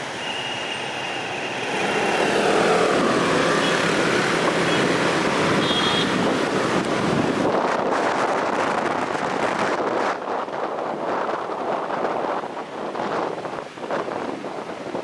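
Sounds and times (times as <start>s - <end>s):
road traffic: 0.0s - 15.0s
strong wind blowing: 0.0s - 15.0s.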